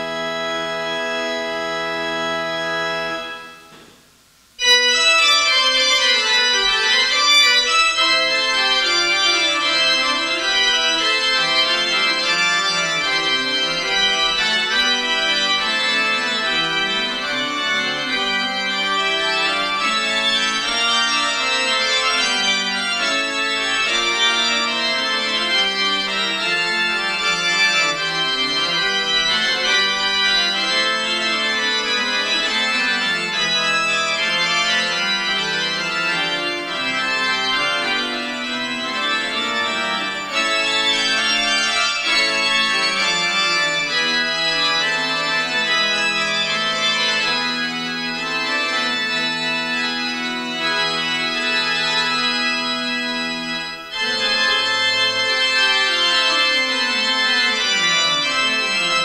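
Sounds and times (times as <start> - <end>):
church organ playing chords: 0.0 - 59.0.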